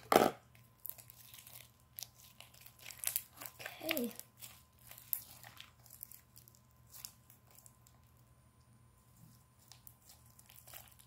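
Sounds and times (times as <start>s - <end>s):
slime squishing and crackling: 0.0s - 8.2s, 9.5s - 11.0s.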